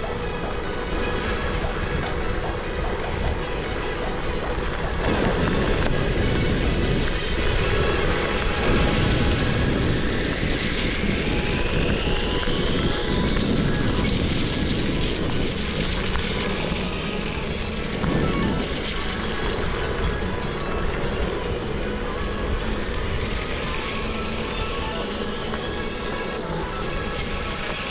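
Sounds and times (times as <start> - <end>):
high electric motor whine: 0.0 - 27.9
wind on microphone: 0.0 - 27.9.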